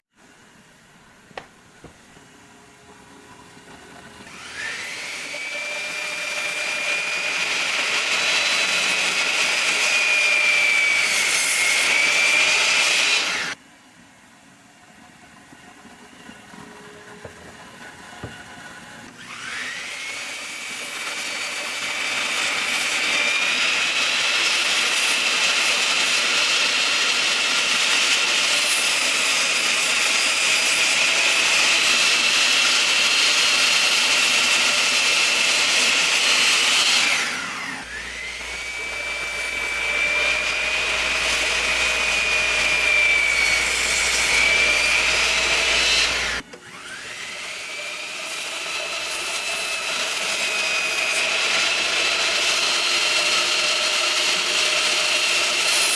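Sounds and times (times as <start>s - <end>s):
power saw whining and cutting: 1.4s - 13.6s, 16.6s - 55.9s.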